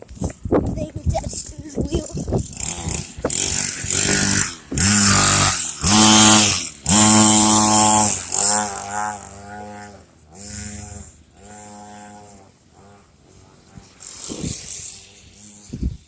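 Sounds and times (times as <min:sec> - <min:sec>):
dirt bike engine revving: 0:02.3 - 0:16.0.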